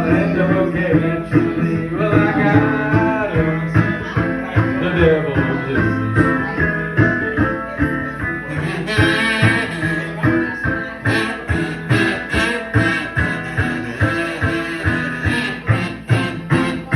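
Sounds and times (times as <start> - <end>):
driving low beat: 0.0 - 16.9
plucked banjo blues: 0.0 - 16.9.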